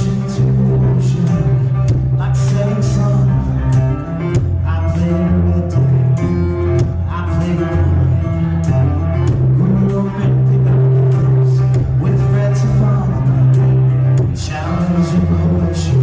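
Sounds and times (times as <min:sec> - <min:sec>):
live rock band playing: 0:00.0 - 0:16.0
man singing: 0:00.0 - 0:16.0.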